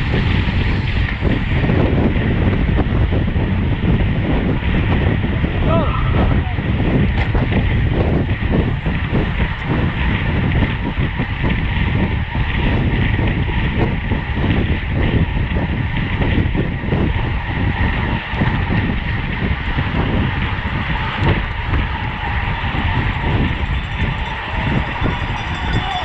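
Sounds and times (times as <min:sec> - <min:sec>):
road noise: 0:00.0 - 0:26.0
wind rushing: 0:00.0 - 0:26.0.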